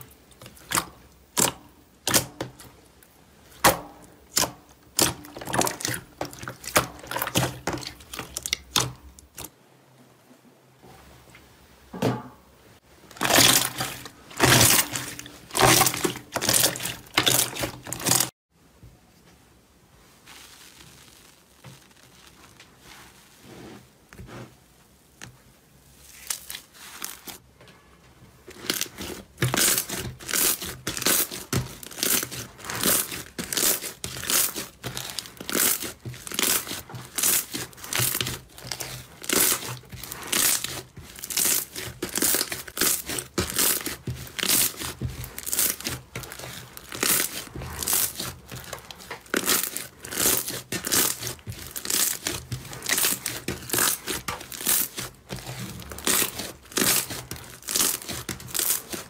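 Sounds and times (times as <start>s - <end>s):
slime squishing and crackling: 0.0s - 9.6s, 13.0s - 18.4s, 20.2s - 23.6s, 25.9s - 27.4s, 28.4s - 59.0s.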